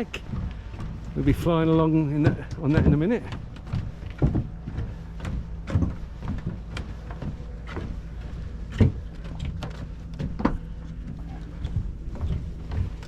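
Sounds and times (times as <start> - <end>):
footsteps on a dock: 0.0 - 13.0
steady low hum: 0.0 - 13.0.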